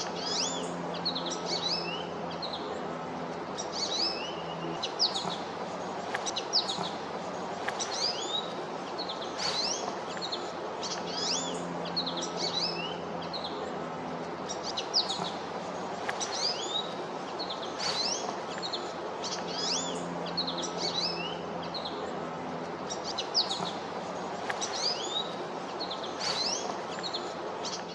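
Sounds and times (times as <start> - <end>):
background hiss: 0.0 - 27.9
songbirds chirping: 0.0 - 27.9.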